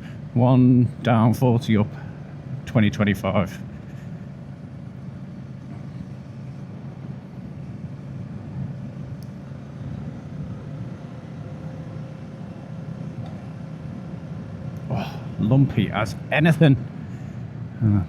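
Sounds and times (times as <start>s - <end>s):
motorcycle engine low hum: 0.0s - 18.0s.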